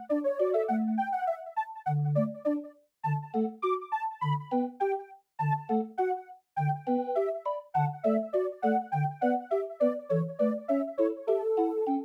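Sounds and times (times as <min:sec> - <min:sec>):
light bouncy melody: 0:00.0 - 0:12.0.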